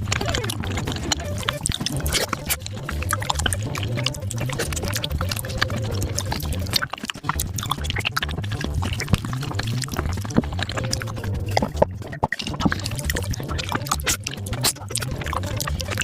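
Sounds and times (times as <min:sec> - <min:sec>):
low repeating beat: 0:00.0 - 0:16.0
sped-up chewing and lip smacking: 0:00.0 - 0:16.0.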